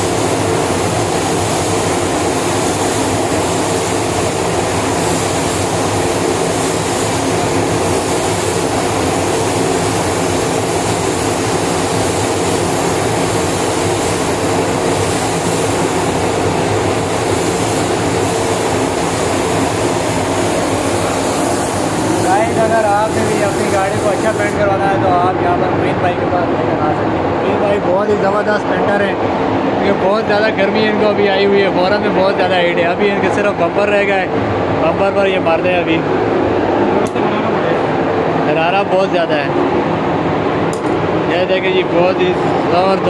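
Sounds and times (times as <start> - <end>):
ventilation fans roaring: 0.0 - 43.0.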